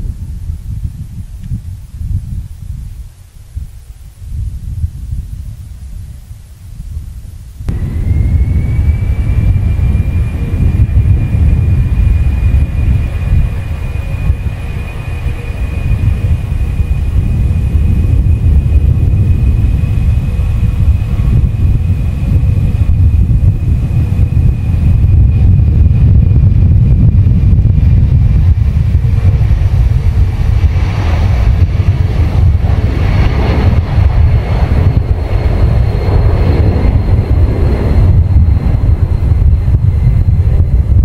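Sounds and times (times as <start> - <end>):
jet engines deep rumble: 0.0 - 41.0
thin steady whine: 0.0 - 41.0.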